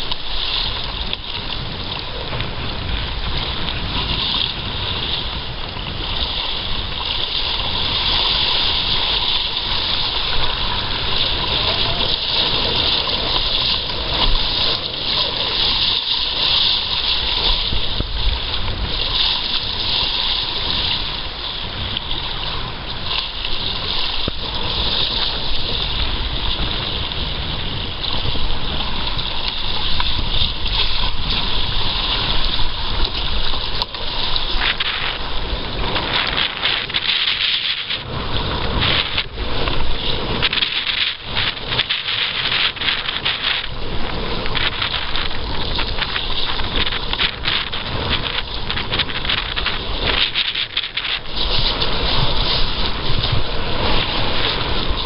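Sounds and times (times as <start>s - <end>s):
water splashing along kayak hull: 0.0s - 55.0s
wind buffeting microphone: 0.0s - 55.0s.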